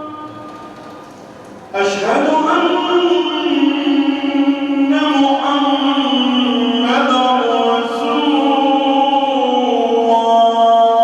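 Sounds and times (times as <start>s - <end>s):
man chanting call to prayer: 1.7s - 11.0s.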